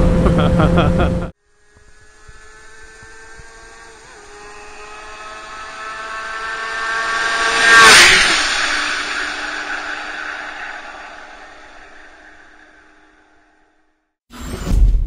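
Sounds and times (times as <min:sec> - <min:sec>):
motorcycle passing by: 0:00.0 - 0:13.8.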